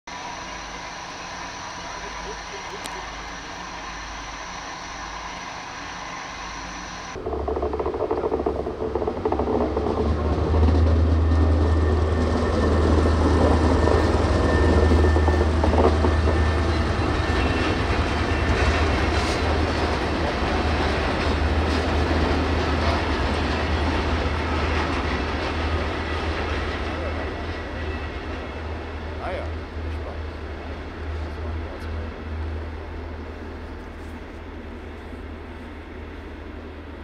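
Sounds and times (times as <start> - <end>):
diesel locomotive engine drone: 0.1 - 37.0
wheels rumbling on rails: 0.1 - 37.0.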